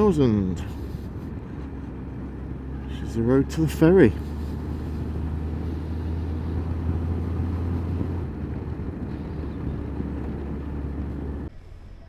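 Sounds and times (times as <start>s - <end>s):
motorcycle engine and road rumble: 0.0s - 12.0s.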